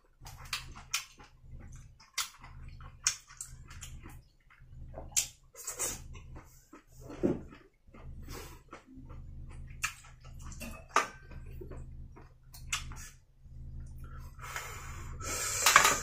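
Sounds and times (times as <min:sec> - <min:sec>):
wet chewing and sucking: 0:00.0 - 0:13.2
steady low hum: 0:00.0 - 0:16.0.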